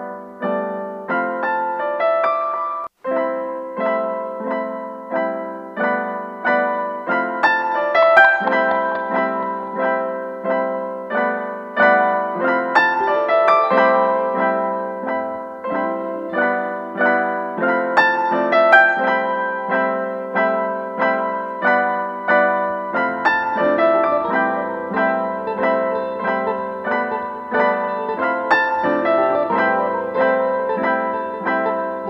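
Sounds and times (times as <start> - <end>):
piano notes and chords: 0.0 - 32.0.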